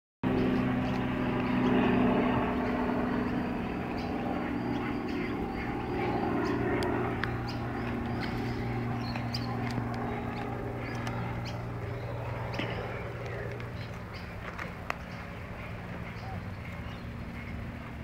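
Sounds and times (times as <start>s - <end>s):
low engine drone: 0.2s - 18.0s.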